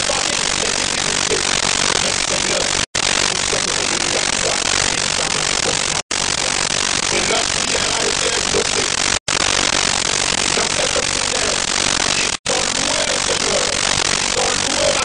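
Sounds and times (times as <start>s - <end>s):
static hiss: 0.0s - 15.0s.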